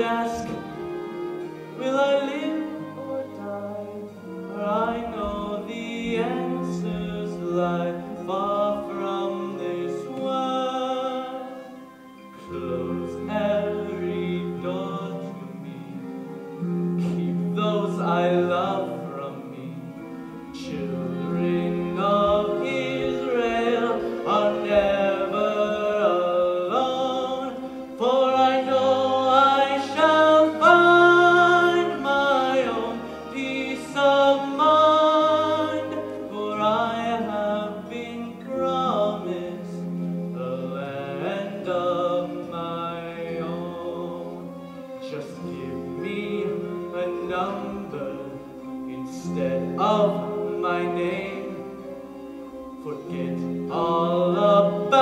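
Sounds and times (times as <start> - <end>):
instrumental accompaniment: 0.0 - 55.0.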